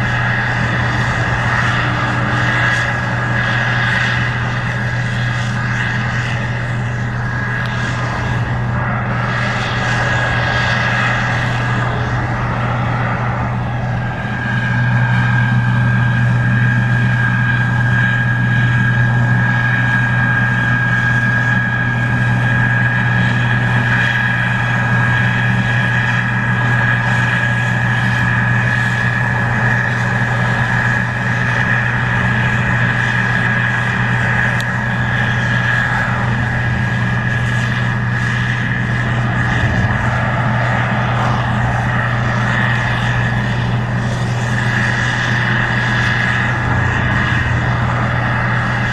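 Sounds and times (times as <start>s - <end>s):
combine harvester diesel drone: 0.0s - 48.9s
high-pitched whine: 0.0s - 48.9s.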